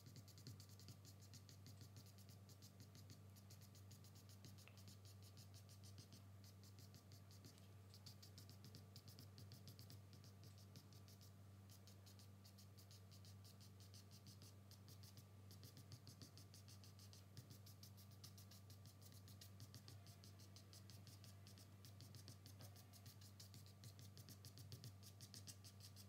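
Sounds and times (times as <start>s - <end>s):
charcoal scratching on paper: 0.0s - 26.0s
low steady hum: 0.0s - 26.0s.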